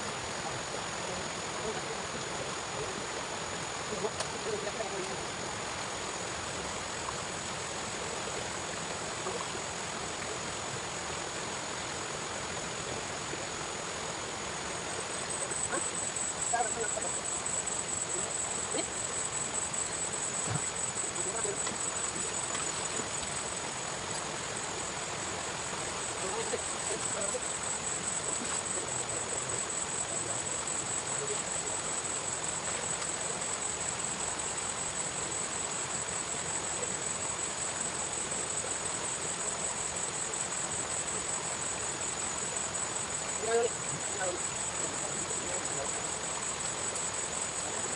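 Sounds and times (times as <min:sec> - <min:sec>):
even hiss: 0:00.0 - 0:47.9
high-pitched insect chorus: 0:00.0 - 0:47.9.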